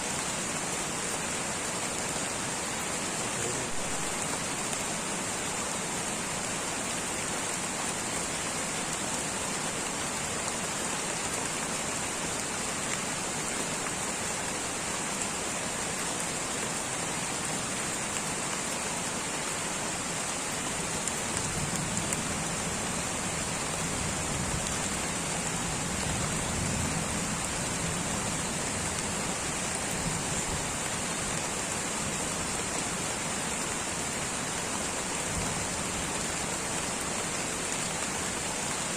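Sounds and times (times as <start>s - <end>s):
light rain pattering: 0.0s - 38.9s.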